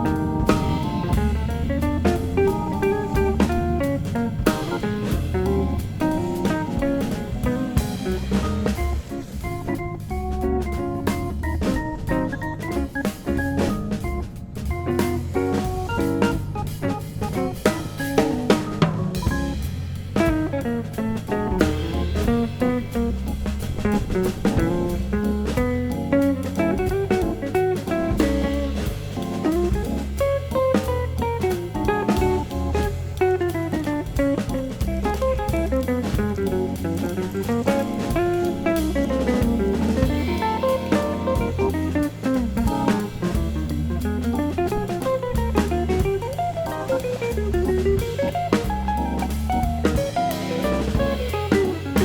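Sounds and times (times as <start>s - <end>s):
drum kit beat: 0.0s - 52.0s
jazzy tune with guitar: 0.0s - 52.0s.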